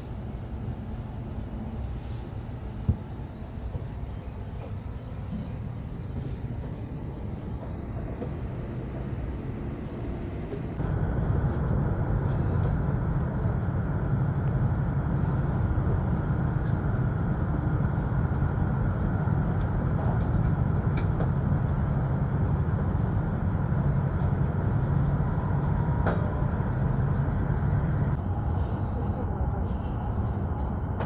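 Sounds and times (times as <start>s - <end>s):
train running at speed: 0.0s - 31.0s.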